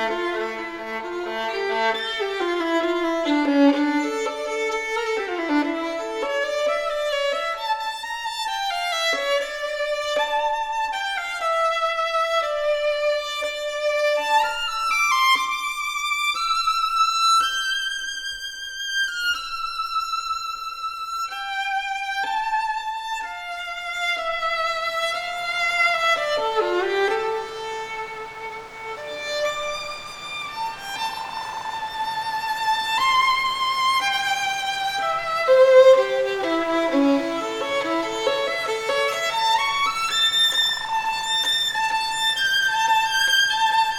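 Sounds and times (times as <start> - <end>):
solo violin slow melody: 0.0 - 43.9.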